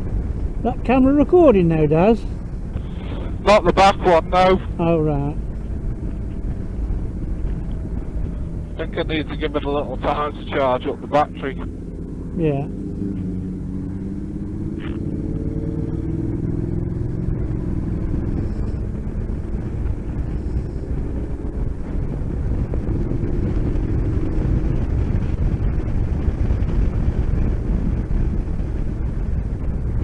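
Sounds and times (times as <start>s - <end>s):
motorcycle engine accelerating: 0.0s - 30.0s
wind rush on microphone: 0.0s - 30.0s.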